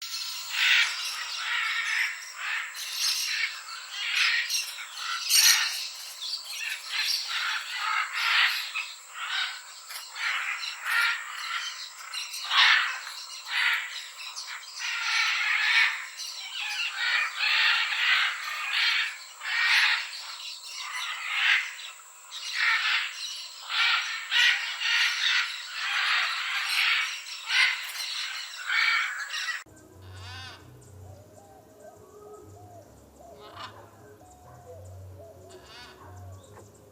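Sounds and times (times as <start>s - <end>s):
steady high-pitched whine: 0.0s - 30.0s
parrots squawking: 0.0s - 30.8s, 33.3s - 34.8s, 35.4s - 36.5s.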